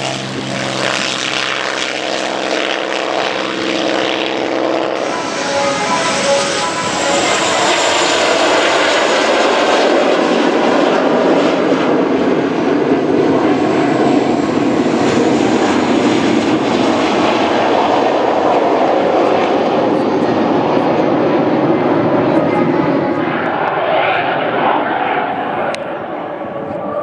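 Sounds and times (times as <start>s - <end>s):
aircraft engine noise: 0.0s - 27.0s.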